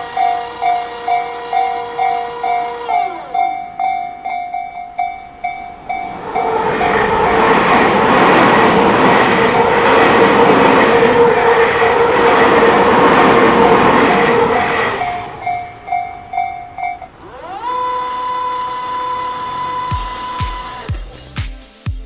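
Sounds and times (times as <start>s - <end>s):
level-crossing warning bell: 0.0s - 20.9s
train rumble and rail noise: 0.0s - 20.9s.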